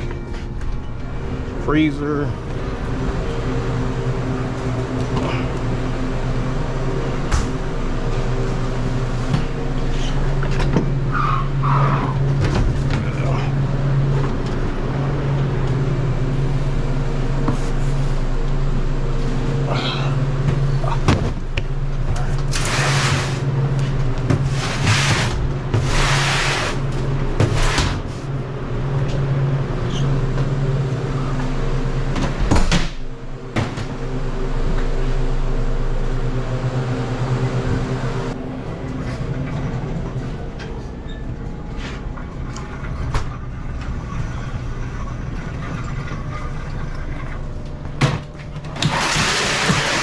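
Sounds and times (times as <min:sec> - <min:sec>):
mechanical hum: 0:00.0 - 0:50.0.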